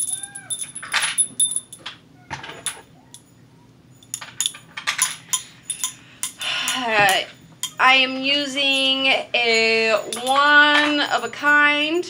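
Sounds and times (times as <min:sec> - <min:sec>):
metal rings clinking and jingling: 0:00.0 - 0:12.0.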